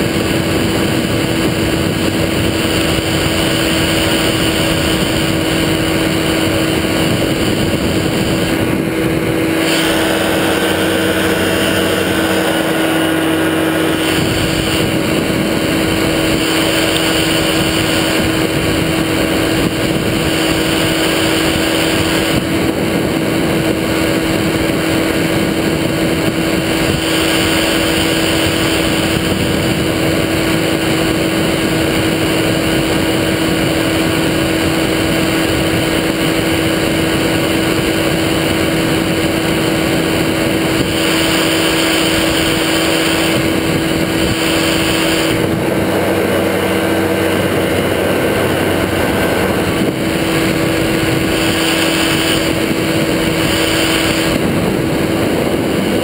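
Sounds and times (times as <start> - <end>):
engine and propeller drone: 0.0 - 56.0.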